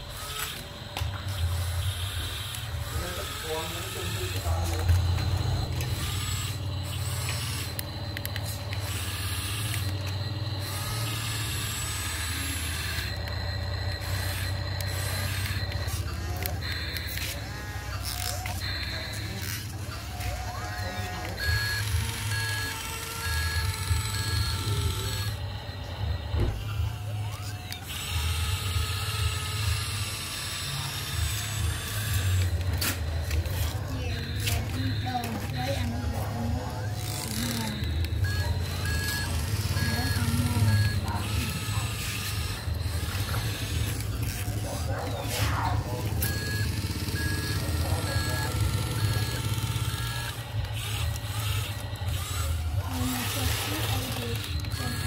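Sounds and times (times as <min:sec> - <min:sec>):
small electric motors whirring: 0:00.0 - 0:55.0.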